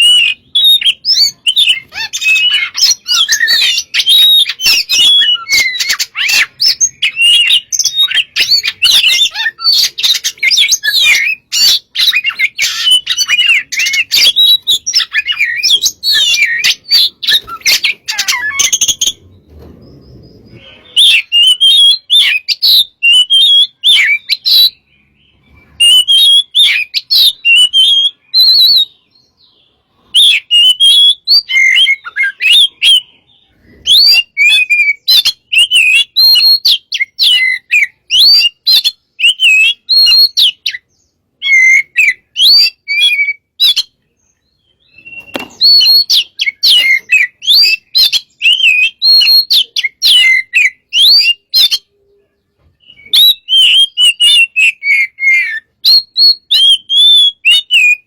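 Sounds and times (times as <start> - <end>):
magpie-robin singing: 0.0 - 58.0.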